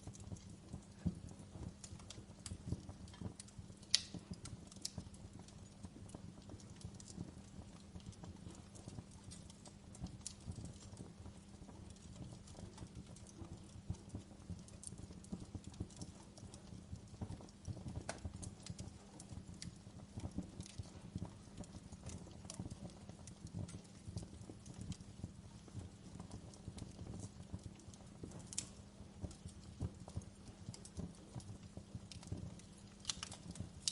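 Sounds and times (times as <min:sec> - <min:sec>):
low steady fire rumble: 0:00.0 - 0:33.9
wood fire crackling: 0:00.0 - 0:33.9.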